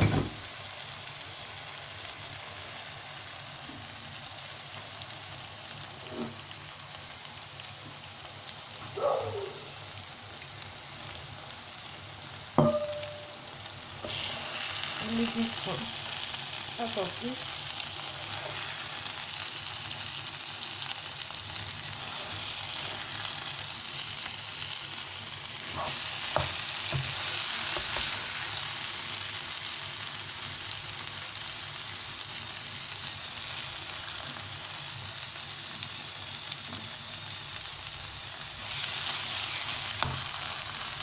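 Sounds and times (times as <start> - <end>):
hot oil sizzling in a pan: 0.0 - 41.0.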